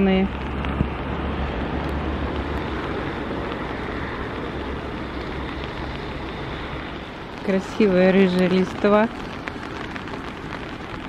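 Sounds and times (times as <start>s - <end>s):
low rumble: 0.0s - 11.0s
rain drumming on umbrella: 0.0s - 11.0s.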